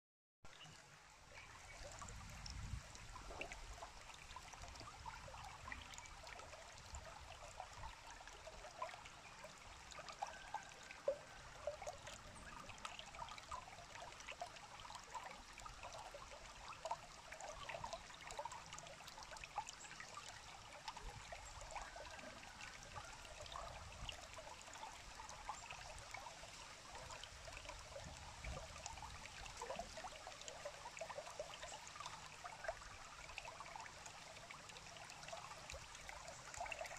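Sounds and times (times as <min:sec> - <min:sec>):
stream babbling over gravel: 0:00.6 - 0:36.9.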